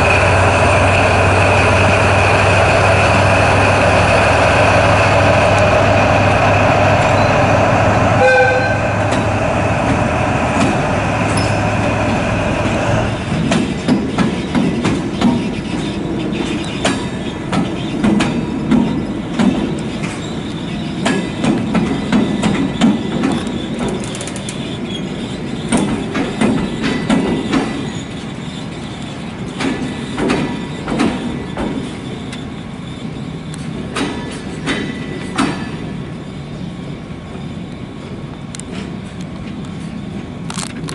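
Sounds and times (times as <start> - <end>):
train wheels clanking over rail joints: 0.0 - 36.3
low rumble of rolling train: 0.0 - 40.9.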